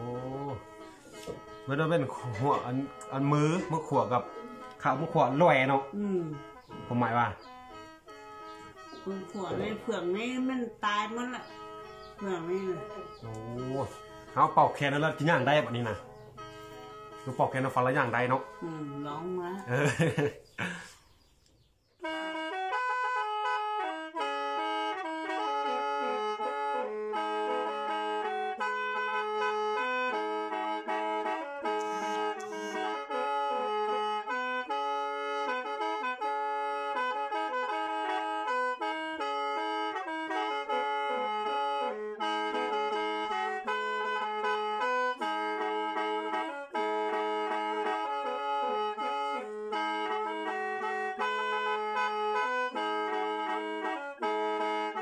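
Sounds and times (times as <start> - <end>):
free-reed mouth organ playing: 0.0 - 55.0.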